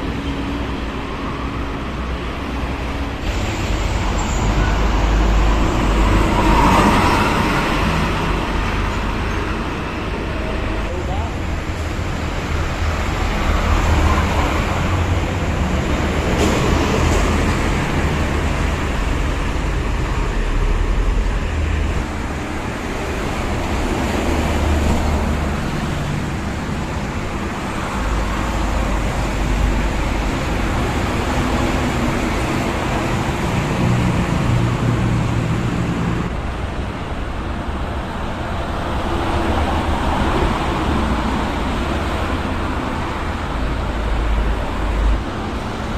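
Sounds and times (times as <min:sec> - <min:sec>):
motorway traffic passing: 0:00.0 - 0:45.9.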